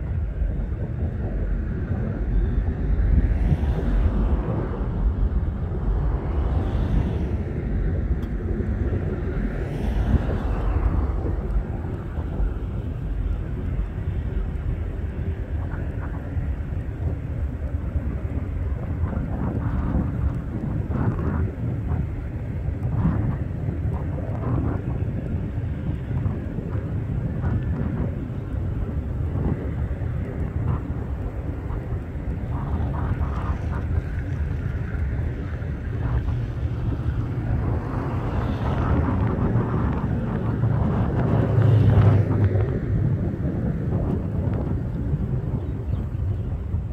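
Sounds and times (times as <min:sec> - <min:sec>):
jet engines rumbling at takeoff: 0:00.0 - 0:46.9.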